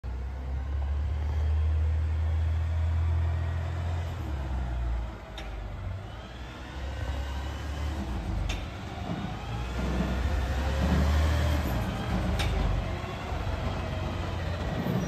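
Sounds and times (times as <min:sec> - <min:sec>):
garbage truck engine rumbling: 0:00.0 - 0:15.0.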